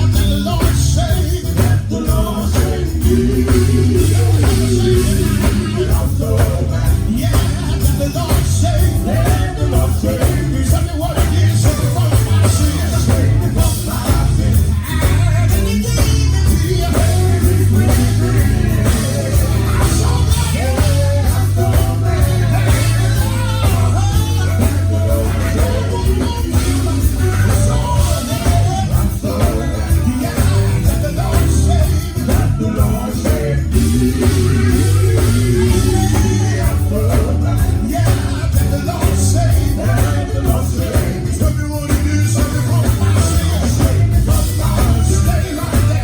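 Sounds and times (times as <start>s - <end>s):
gospel band playing: 0.0s - 46.0s
strong steady bass: 0.0s - 46.0s
voices singing: 0.0s - 46.0s.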